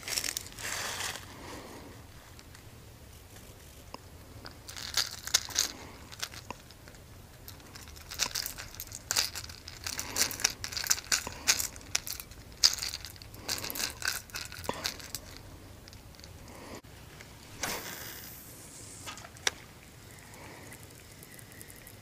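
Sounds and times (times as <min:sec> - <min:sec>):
crinkling and rustling from handling: 0:00.0 - 0:18.1.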